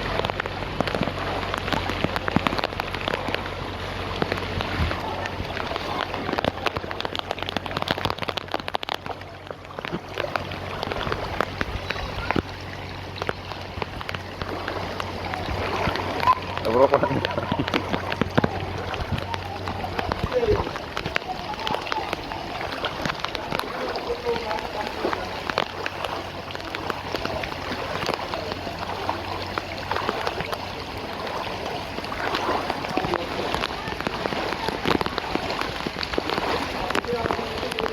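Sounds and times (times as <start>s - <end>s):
drips and splashes pattering: 0.0s - 37.9s
low steady hum: 0.0s - 37.9s
rain falling: 0.0s - 37.9s
running water: 0.0s - 37.9s.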